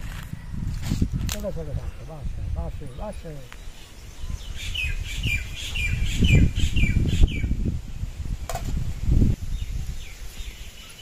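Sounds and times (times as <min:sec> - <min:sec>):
bird chirping: 0:00.2 - 0:07.7, 0:09.4 - 0:11.0.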